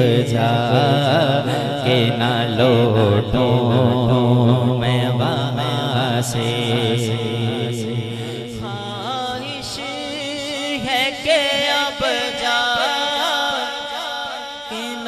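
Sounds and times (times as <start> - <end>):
low vocal drone: 0.0 - 15.0
man singing into a microphone: 0.0 - 15.0.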